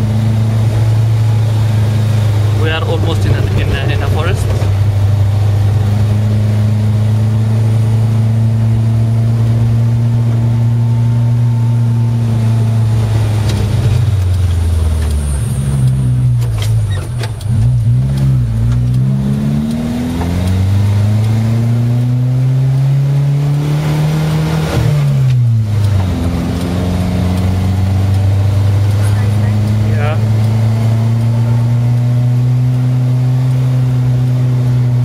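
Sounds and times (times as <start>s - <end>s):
car engine from inside cabin: 0.0s - 35.0s.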